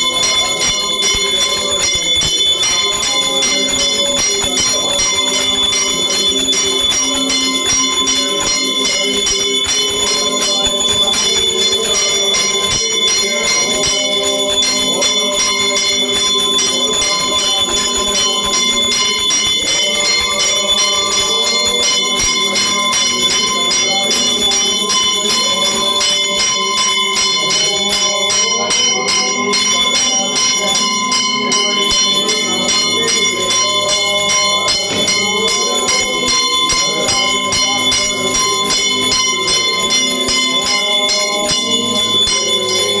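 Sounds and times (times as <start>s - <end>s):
temple bell ringing rapidly: 0.0s - 43.0s.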